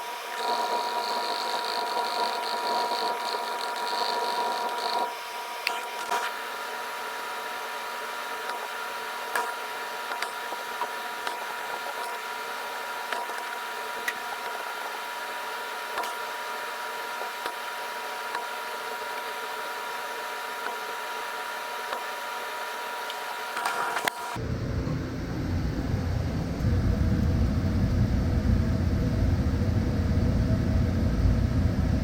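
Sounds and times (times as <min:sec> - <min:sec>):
machine hum with high whine: 0:00.0 - 0:32.0.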